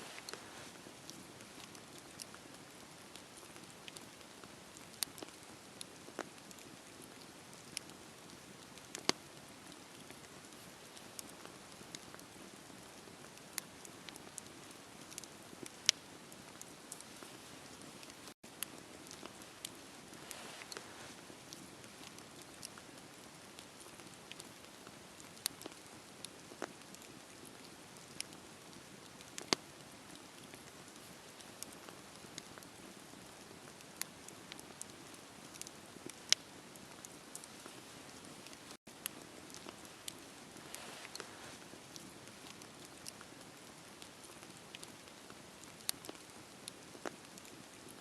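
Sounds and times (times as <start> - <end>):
bonfire popping: 0.0 - 47.8
bonfire hissing: 0.0 - 48.0
wood fire crackling: 0.0 - 48.0.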